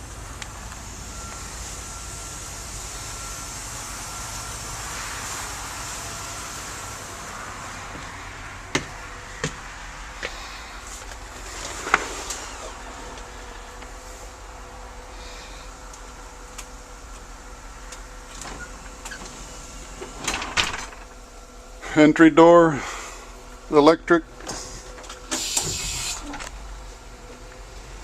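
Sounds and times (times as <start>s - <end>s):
bus mechanical hum: 0.0s - 28.0s.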